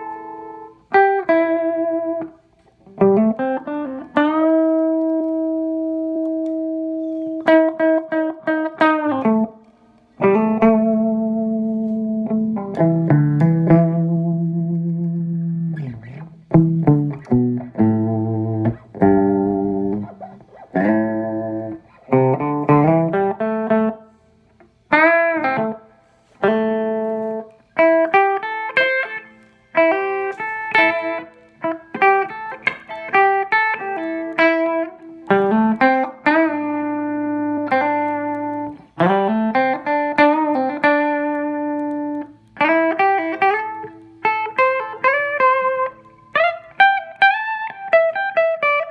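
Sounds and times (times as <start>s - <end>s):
electric guitar lead lines: 0.0s - 48.9s.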